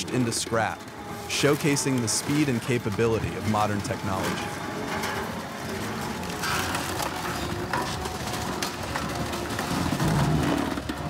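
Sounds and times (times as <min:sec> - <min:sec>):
compactor crushing a car: 0:00.0 - 0:11.0
metal panels crunching and cracking: 0:00.0 - 0:11.0.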